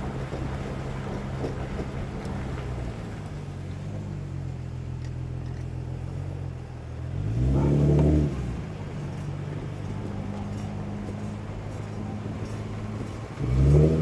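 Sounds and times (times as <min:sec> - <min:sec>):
vehicle engine idling and revving: 0:00.0 - 0:14.0.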